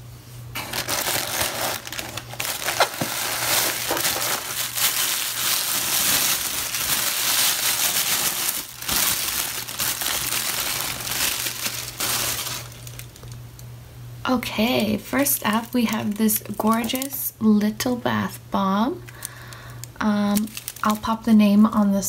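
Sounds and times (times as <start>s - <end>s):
packaging crinkling and rustling: 0.5s - 13.7s, 14.9s - 17.3s, 19.0s - 21.3s.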